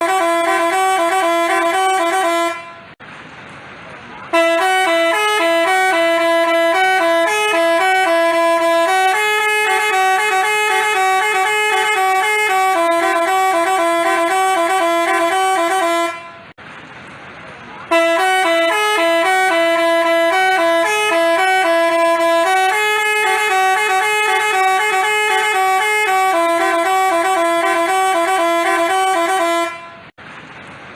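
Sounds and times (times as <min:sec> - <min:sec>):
multi-note musical horn: 0:00.0 - 0:02.9, 0:04.3 - 0:16.5, 0:17.9 - 0:30.1.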